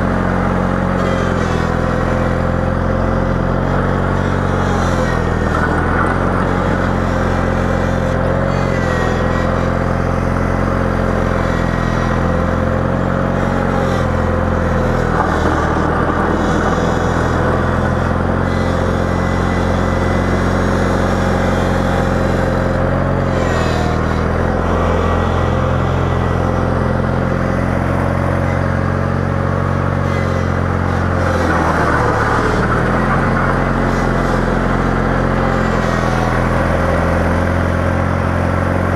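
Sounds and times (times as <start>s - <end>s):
snow plow engine running: 0.0s - 38.9s.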